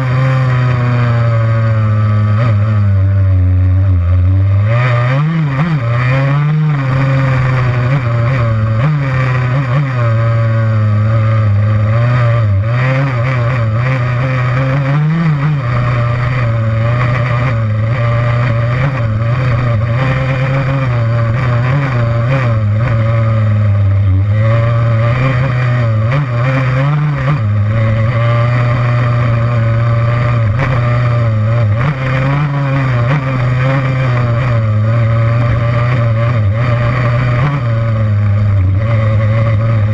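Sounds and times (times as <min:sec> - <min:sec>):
two-stroke motorbike engine revving: 0:00.0 - 0:39.9.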